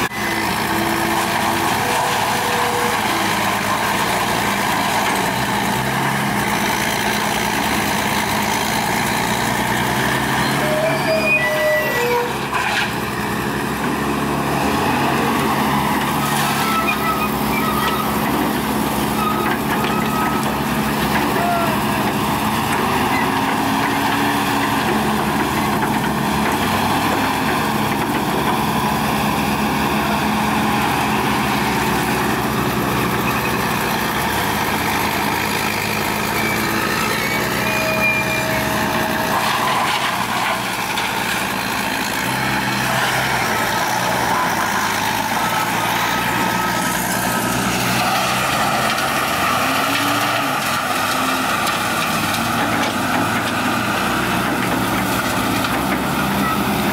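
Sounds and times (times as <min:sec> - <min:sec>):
heavy diesel machinery running: 0:00.0 - 0:56.9.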